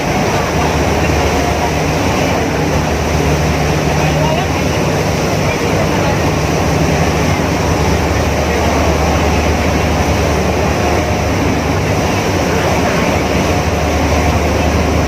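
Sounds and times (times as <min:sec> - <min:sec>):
even rushing noise: 0:00.0 - 0:15.0
ferry engine droning: 0:00.0 - 0:15.0.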